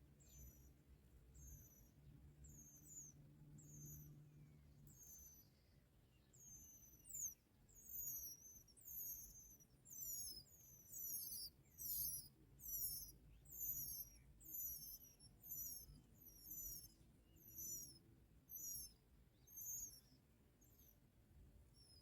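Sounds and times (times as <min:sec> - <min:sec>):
bird high-pitched wavering call: 0:01.4 - 0:21.0.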